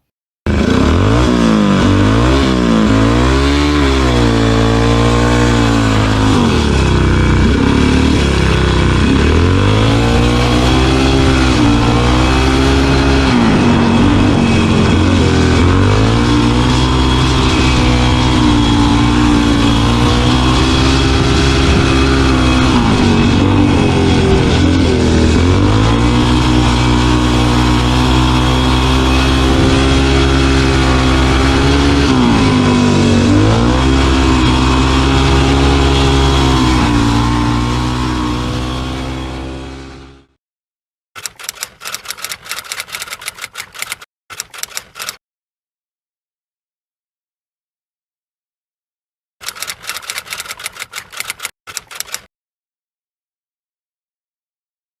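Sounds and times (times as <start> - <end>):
motorcycle engine revving: 0.5 - 40.4, 41.2 - 45.2, 49.4 - 52.3.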